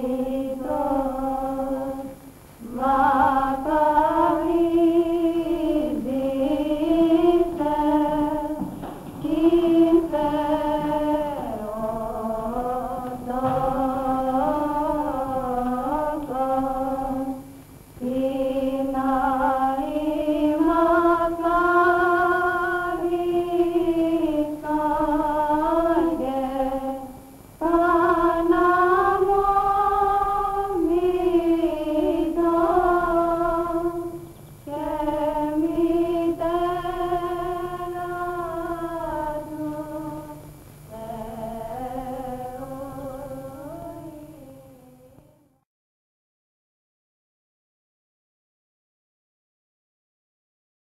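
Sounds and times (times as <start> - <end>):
woman singing chant: 0.0 - 45.6.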